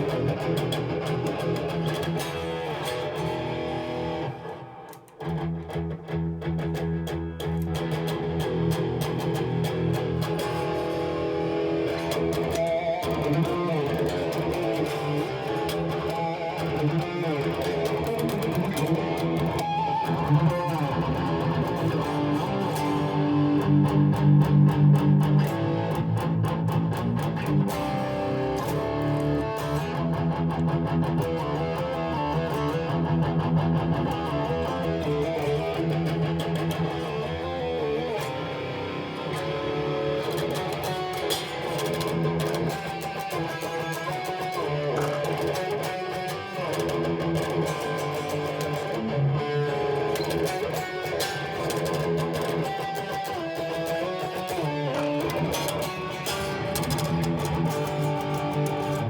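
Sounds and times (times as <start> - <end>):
overdriven electric guitar: 0.0 - 59.0.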